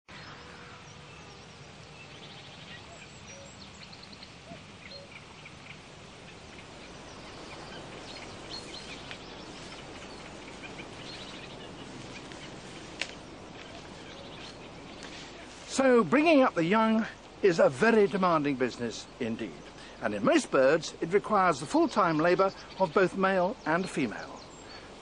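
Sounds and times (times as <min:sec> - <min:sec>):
outdoor hiss: 0:00.1 - 0:25.0
songbirds chirping and trilling: 0:00.1 - 0:25.0.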